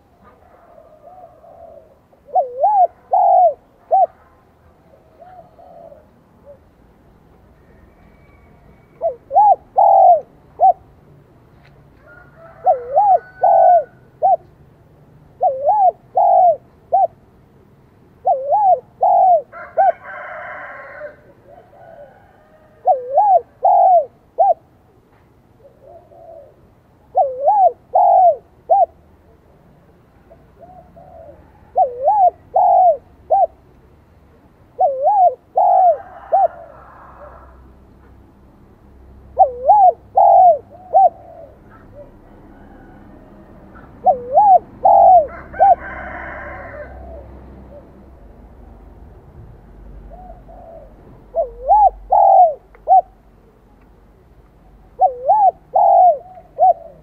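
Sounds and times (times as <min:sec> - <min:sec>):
dove cooing: 0:00.0 - 0:06.8, 0:07.6 - 0:11.0, 0:12.0 - 0:14.5, 0:15.3 - 0:17.4, 0:18.2 - 0:24.8, 0:25.6 - 0:29.5, 0:30.1 - 0:33.6, 0:34.7 - 0:37.8, 0:39.3 - 0:48.2, 0:50.0 - 0:53.6, 0:54.6 - 0:57.0.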